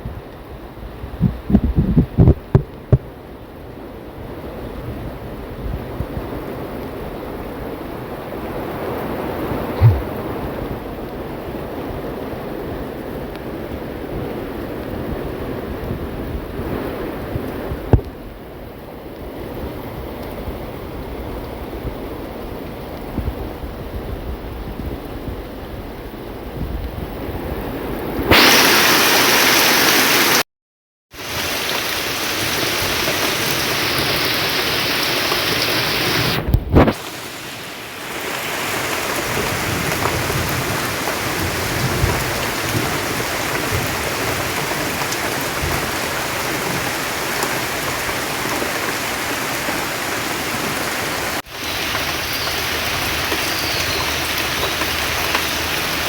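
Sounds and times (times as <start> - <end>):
rain pattering on surfaces: 0.2 - 30.4, 31.2 - 56.0.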